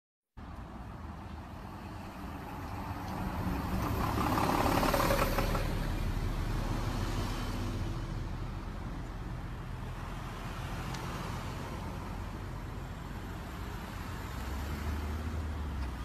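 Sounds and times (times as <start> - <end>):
vehicle passing by: 1.4 - 16.0.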